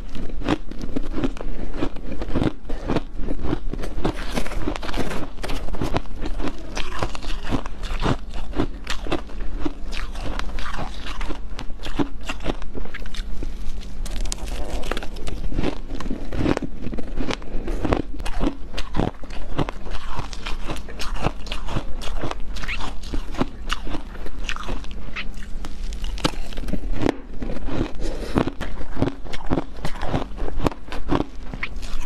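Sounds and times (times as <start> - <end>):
person crunching shaved ice: 0.0 - 32.0.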